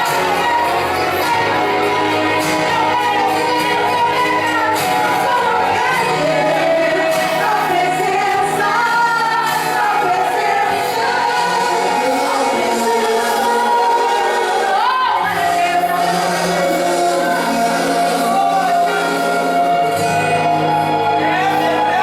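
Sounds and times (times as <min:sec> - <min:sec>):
worship music with singing: 0:00.0 - 0:22.0.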